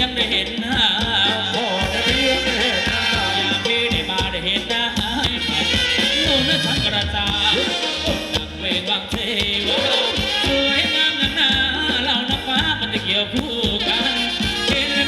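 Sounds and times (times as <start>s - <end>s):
live band playing dance music: 0.0s - 15.0s
person singing: 0.0s - 15.0s.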